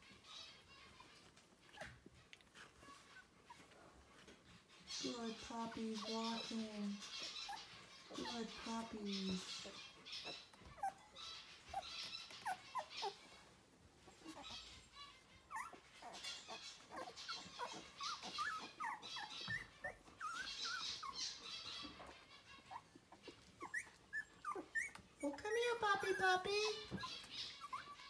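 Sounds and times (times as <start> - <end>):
puppies squeaking and whimpering: 0.0 - 28.0.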